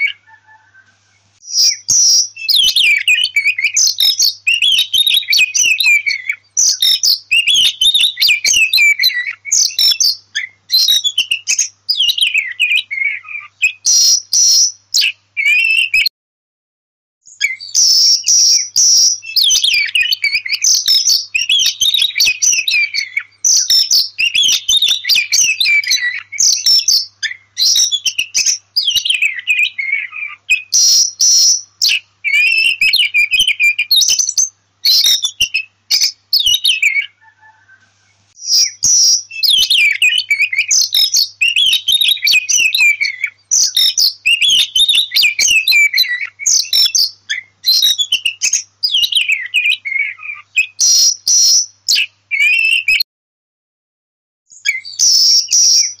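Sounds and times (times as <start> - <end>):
songbird singing varied phrases: 0.0 - 16.1, 17.2 - 53.0, 54.5 - 56.0.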